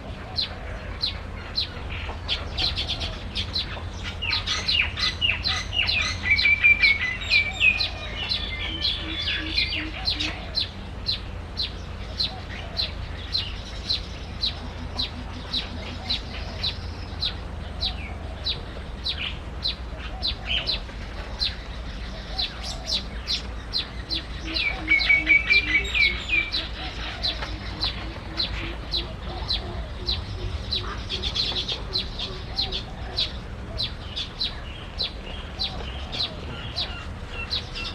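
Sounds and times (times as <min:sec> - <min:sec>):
bird trill: 0:00.0 - 0:37.9.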